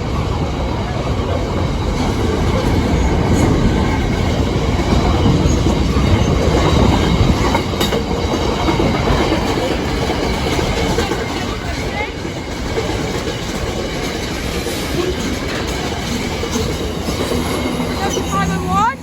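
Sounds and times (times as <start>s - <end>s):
train wheels clattering on rails: 0.0s - 19.0s.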